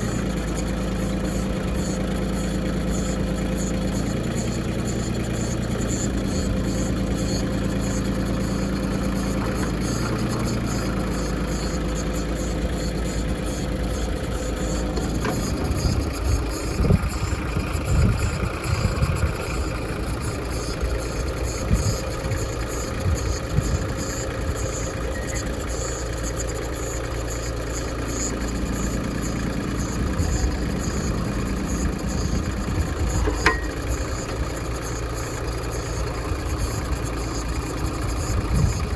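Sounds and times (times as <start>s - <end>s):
backhoe bucket clanking: 0.0s - 38.6s
tractor diesel engine running: 0.0s - 38.9s.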